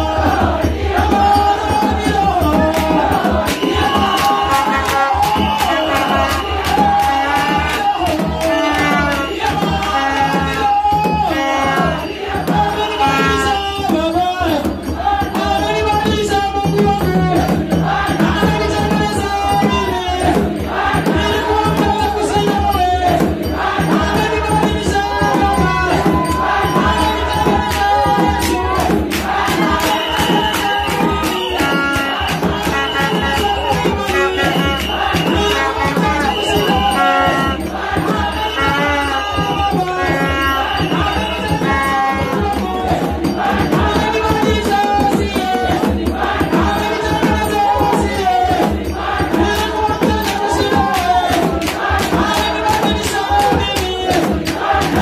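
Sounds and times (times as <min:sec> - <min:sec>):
group singing worship song: 0:00.0 - 0:55.0
steady percussion beat: 0:00.0 - 0:55.0.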